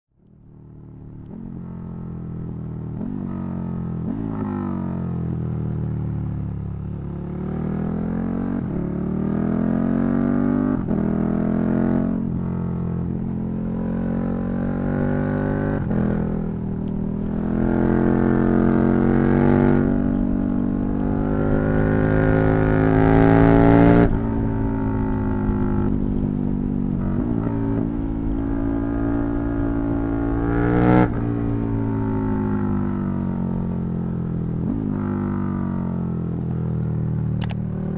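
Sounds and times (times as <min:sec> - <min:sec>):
motorcycle engine revving: 0:00.7 - 0:37.9.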